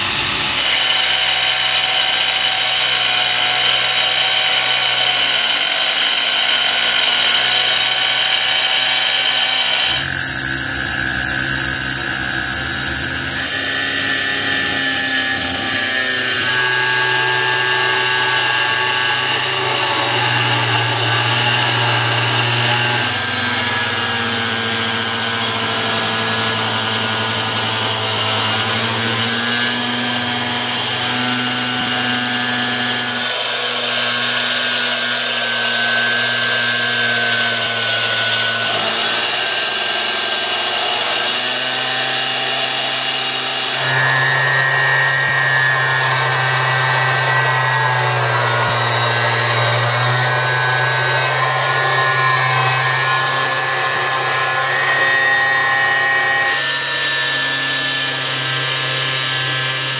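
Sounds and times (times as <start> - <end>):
angle grinder cutting plastic: 0.0 - 59.9.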